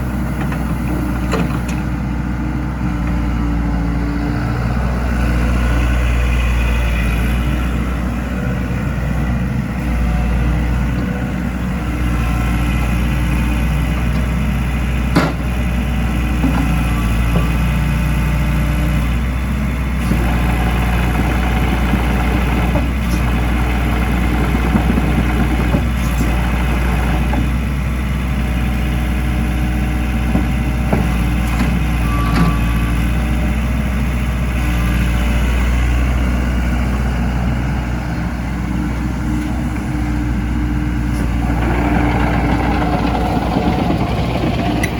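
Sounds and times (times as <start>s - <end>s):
excavator diesel engine idling: 0.0s - 44.9s.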